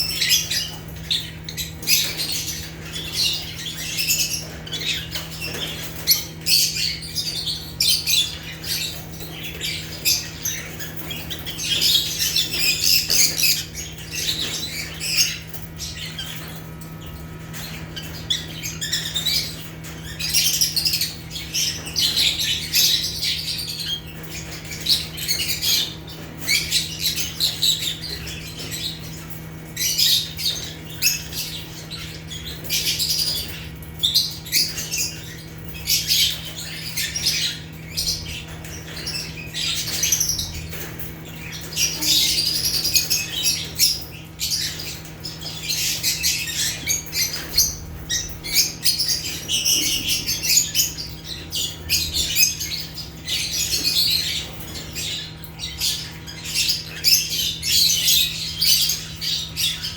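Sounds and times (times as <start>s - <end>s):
lovebirds chattering: 0.0s - 59.9s.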